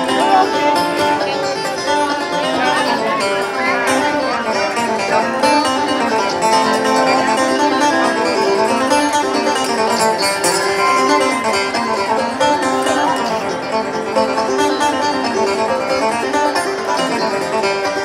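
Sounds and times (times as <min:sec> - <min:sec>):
live bluegrass banjo and guitar: 0:00.0 - 0:18.0.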